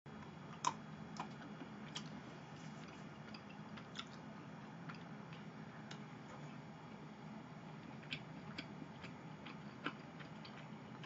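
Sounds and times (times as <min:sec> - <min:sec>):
faint steady low hum: 0:00.1 - 0:11.0.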